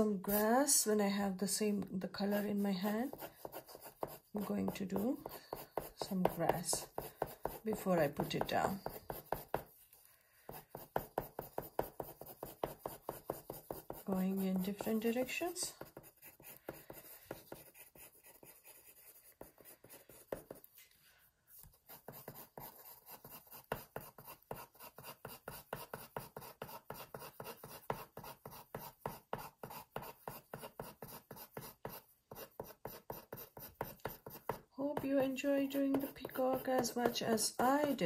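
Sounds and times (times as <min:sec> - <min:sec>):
pencil scratching on paper: 0:00.0 - 0:20.8, 0:21.5 - 0:38.0.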